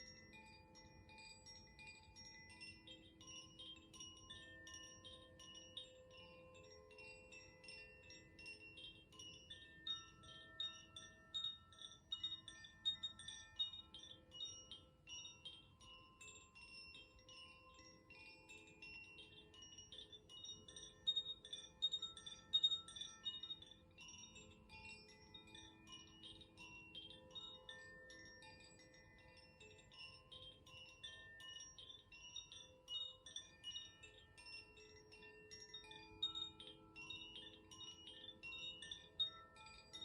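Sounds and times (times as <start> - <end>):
wind chime tinkling: 0.0 - 40.0.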